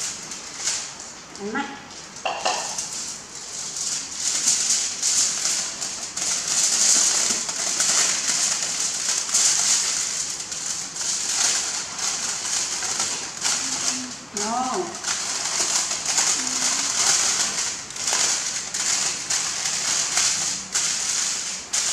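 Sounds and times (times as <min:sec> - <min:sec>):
aluminium foil crinkling: 0:00.0 - 0:21.9.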